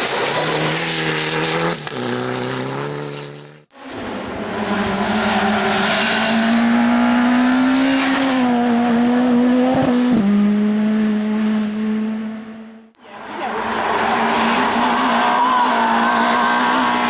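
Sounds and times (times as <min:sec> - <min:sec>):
racing car engine revving high: 0:00.5 - 0:17.0.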